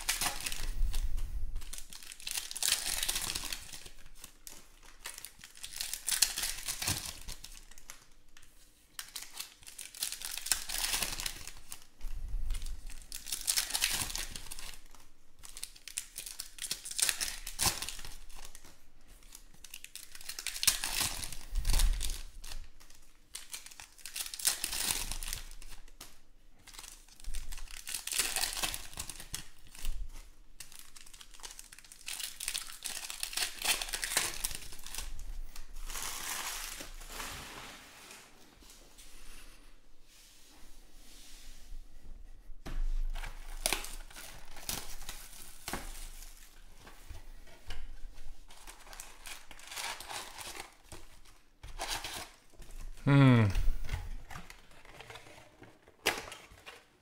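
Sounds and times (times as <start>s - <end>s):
foil wrappers crinkling and tearing: 0.0s - 11.9s, 12.5s - 37.8s, 43.0s - 53.3s.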